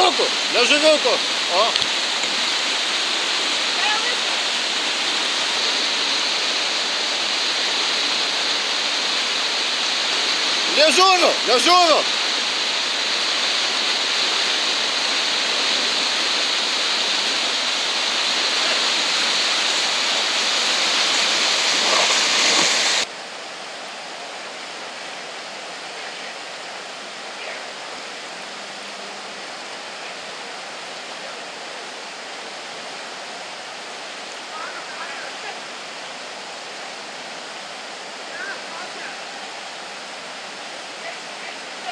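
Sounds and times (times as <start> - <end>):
whitewater rapids rushing: 0.0 - 41.9.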